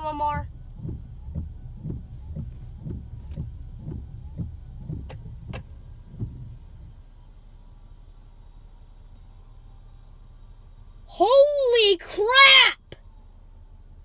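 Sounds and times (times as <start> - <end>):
windshield wipers sweeping: 0.0 - 12.8.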